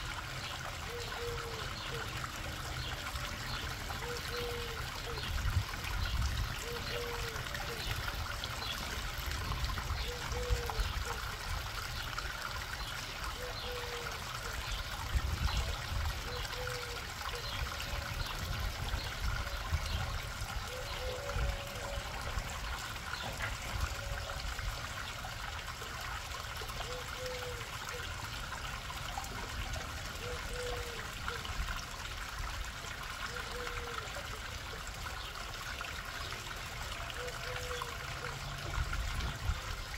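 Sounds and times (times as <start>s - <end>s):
waterfall trickling into pond: 0.0s - 39.9s.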